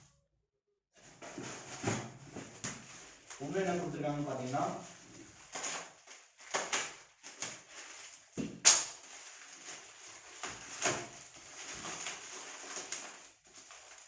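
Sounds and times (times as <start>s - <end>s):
plastic wrap crinkling: 1.0s - 14.0s.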